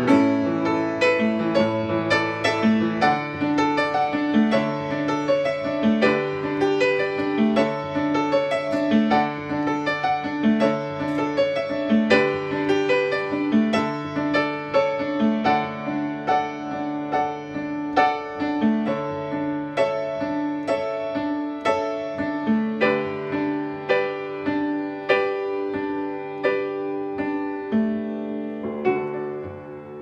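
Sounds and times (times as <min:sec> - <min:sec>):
solo upright piano: 0:00.0 - 0:30.0.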